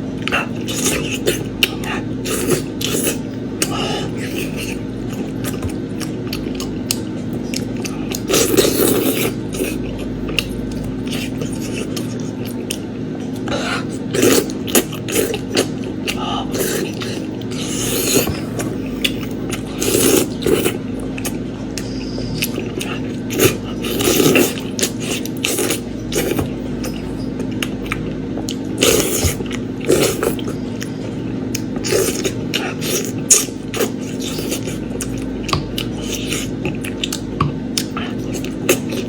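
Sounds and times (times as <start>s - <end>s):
steady low hum: 0.0s - 39.0s
chewing meat with wet smacks: 0.1s - 39.0s.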